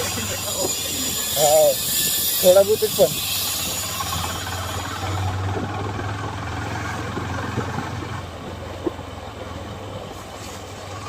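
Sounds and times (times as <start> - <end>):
motorcycle engine humming: 0.0 - 11.0
road and wind noise: 0.0 - 11.0.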